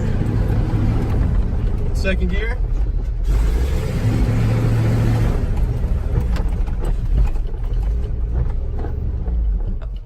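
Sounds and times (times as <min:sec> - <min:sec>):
pickup truck engine rumble: 0:00.0 - 0:10.0.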